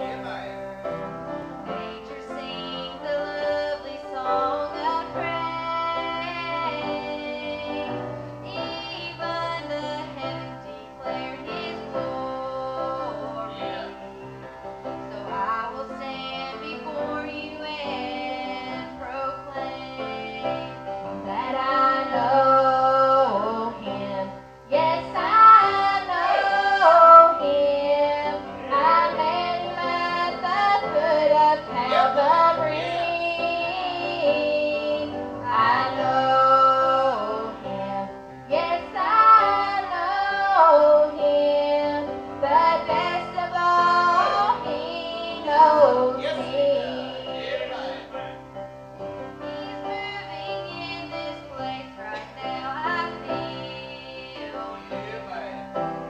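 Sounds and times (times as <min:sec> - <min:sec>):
two women singing: 0:01.4 - 0:14.0, 0:15.1 - 0:48.1, 0:49.2 - 0:55.1.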